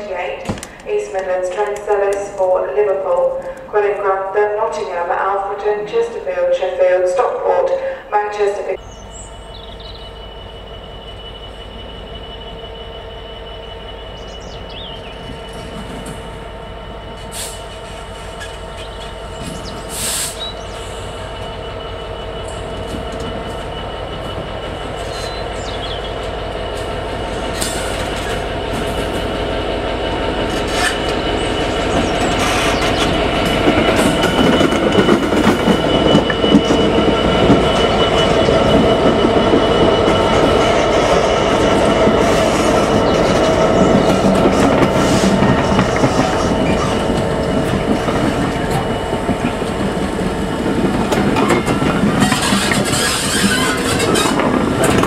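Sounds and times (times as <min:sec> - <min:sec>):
diesel locomotive engine: 0:00.0 - 0:55.0
train wheels squealing: 0:08.8 - 0:55.0.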